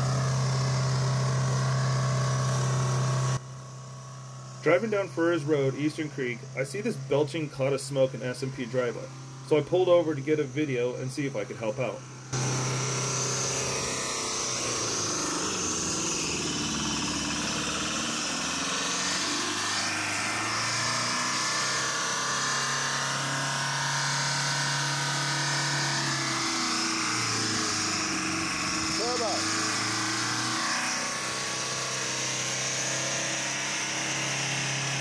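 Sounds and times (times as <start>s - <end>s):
diesel engine racing at high speed: 0.0s - 9.5s, 10.1s - 35.0s.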